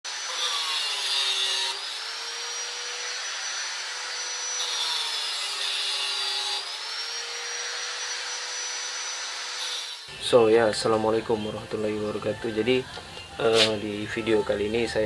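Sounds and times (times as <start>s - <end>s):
angle grinder whining: 0.1s - 15.0s.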